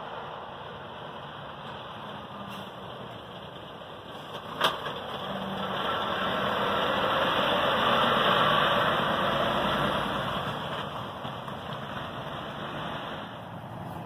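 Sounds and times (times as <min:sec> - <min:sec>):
lorry diesel engine passing: 0:00.0 - 0:14.0.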